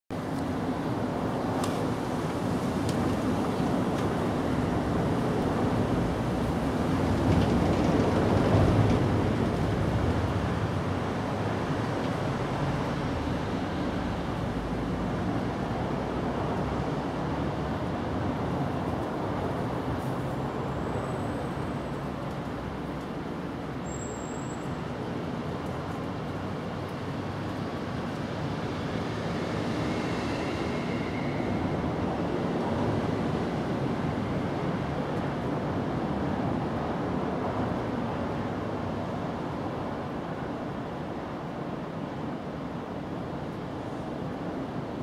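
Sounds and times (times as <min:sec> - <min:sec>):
outdoor rumble and hiss: 0:00.1 - 0:45.0.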